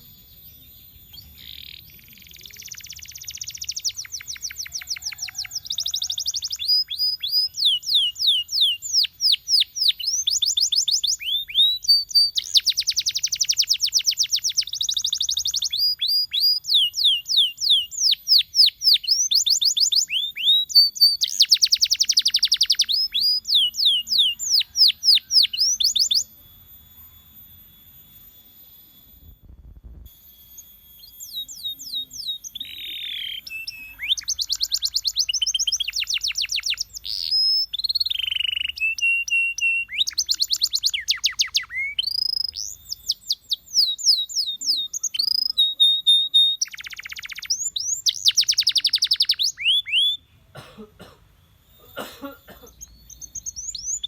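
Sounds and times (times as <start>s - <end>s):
canary singing with trills: 0.0s - 50.5s, 51.4s - 54.0s.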